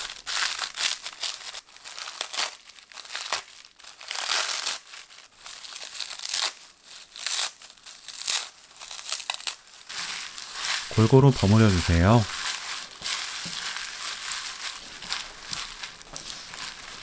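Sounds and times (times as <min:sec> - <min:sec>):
dried seaweed crackling and tearing: 0:00.0 - 0:17.0.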